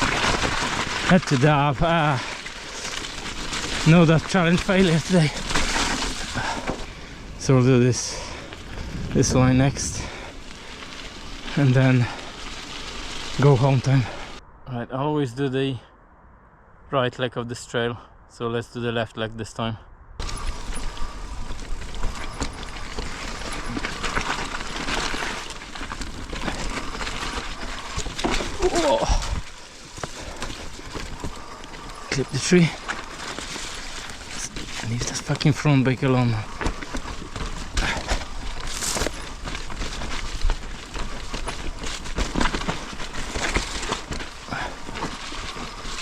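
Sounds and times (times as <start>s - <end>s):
bike clattering and rattling: 0.0s - 7.2s, 9.6s - 14.4s, 20.2s - 46.0s
bike tyres on dirt: 0.0s - 14.4s, 20.2s - 46.0s
wind noise: 0.0s - 46.0s.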